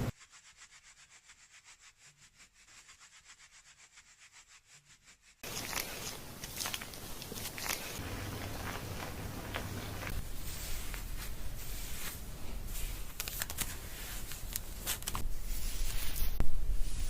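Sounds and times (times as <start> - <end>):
hands scrubbing hair: 0.1 - 17.0.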